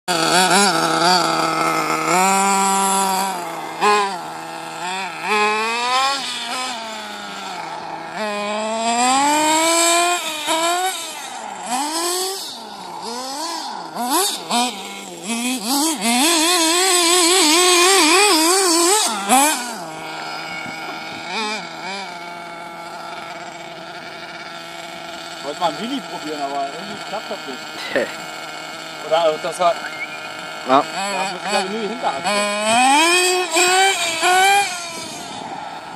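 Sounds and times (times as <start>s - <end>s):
rc buggy motor revving: 0.1s - 35.9s.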